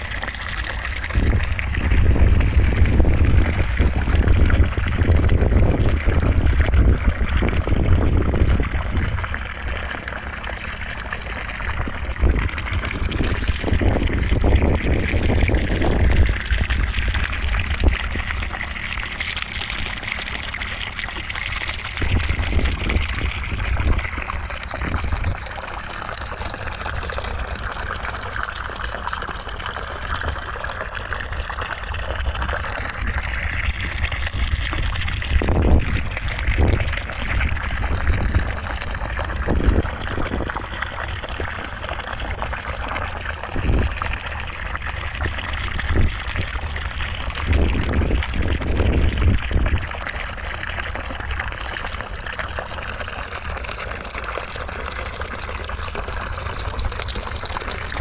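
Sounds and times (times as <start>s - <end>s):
gushing water noise: 0.0s - 58.0s.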